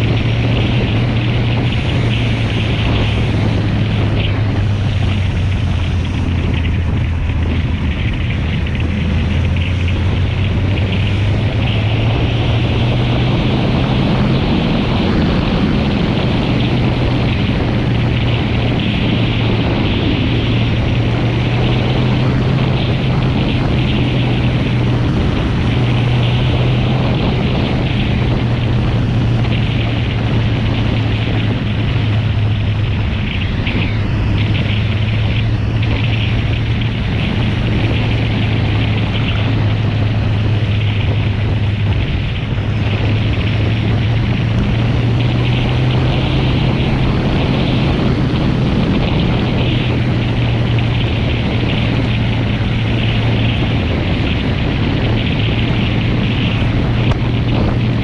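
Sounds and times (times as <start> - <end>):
motorcycle engine droning: 0.0 - 58.0
wind noise: 0.0 - 58.0.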